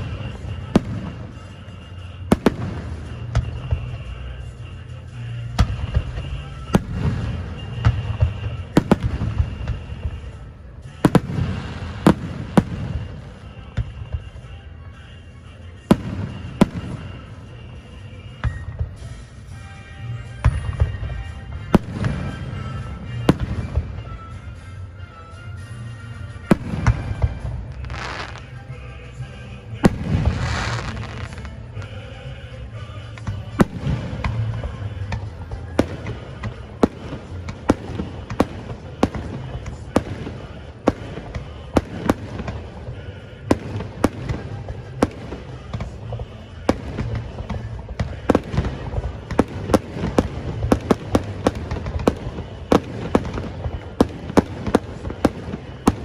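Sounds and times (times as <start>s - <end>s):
fireworks bangs: 0.0s - 56.0s
music: 0.0s - 56.0s
steady low rumble: 0.0s - 56.0s.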